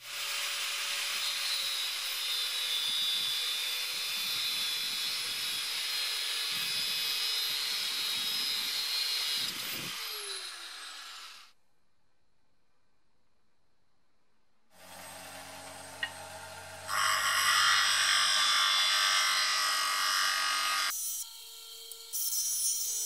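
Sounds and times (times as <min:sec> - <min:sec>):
angle grinder cutting steel: 0:00.0 - 0:11.5, 0:14.8 - 0:23.0.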